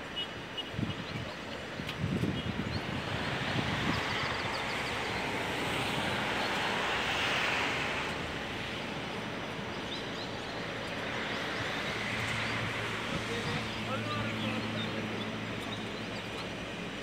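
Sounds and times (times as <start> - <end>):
road traffic rush: 0.0 - 17.0
distant engine noise: 2.6 - 17.0.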